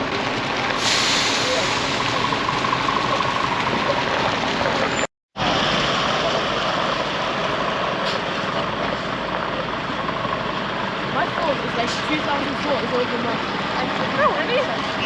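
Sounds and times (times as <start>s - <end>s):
heavy lorry engines running: 0.0s - 15.0s.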